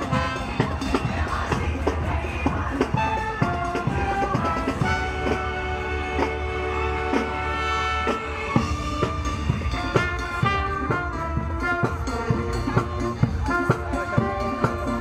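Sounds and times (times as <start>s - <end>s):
marching band brass tune: 0.0s - 15.0s
steady drum beat: 0.0s - 15.0s.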